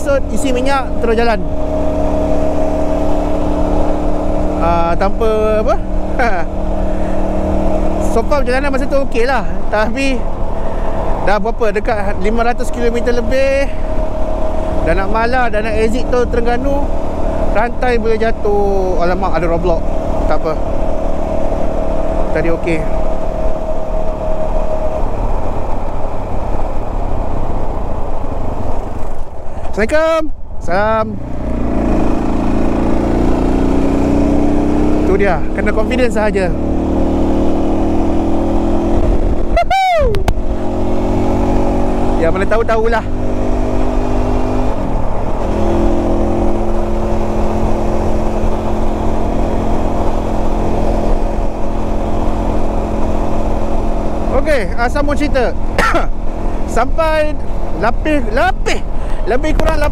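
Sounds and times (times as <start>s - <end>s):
motorcycle engine hum: 0.0s - 59.9s
wind rush on microphone: 0.0s - 59.9s.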